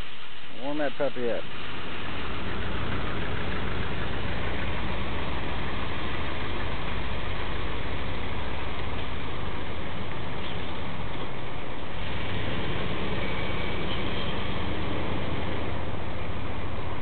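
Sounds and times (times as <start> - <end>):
truck engine running at low speed: 0.0 - 17.0.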